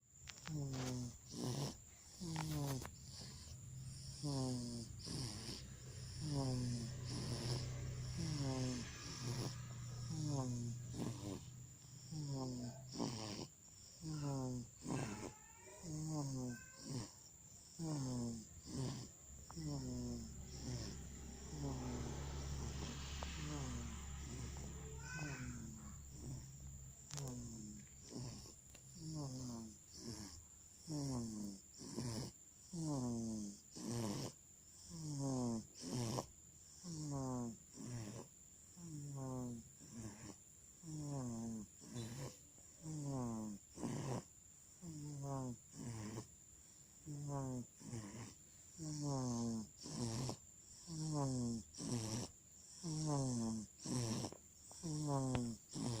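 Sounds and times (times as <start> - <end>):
baby snoring: 0.3 - 56.0.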